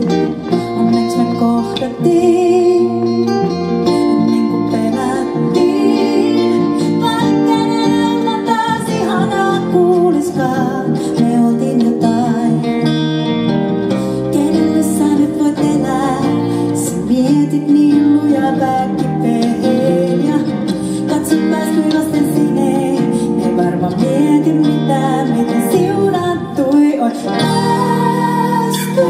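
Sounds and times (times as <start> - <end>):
woman singing: 0.0 - 13.1, 14.0 - 29.0
electric guitar: 0.0 - 29.0
strummed acoustic guitar: 0.0 - 29.0.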